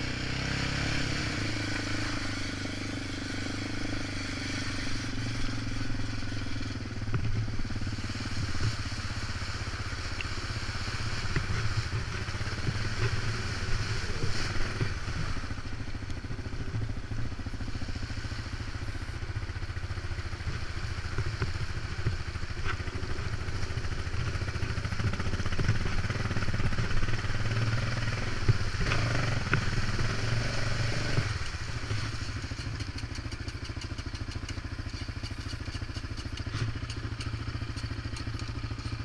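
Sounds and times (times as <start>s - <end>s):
quad engine running: 0.0s - 39.0s.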